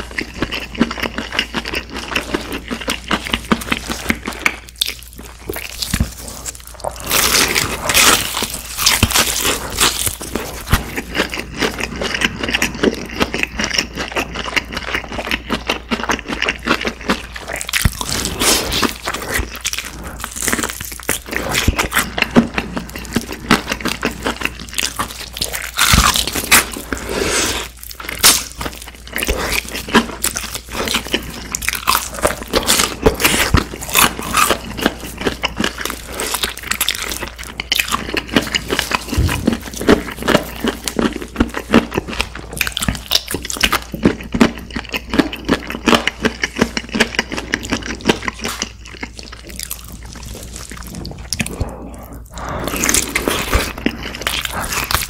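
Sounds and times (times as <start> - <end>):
crunchy chewing of fried chicken: 0.0 - 55.0.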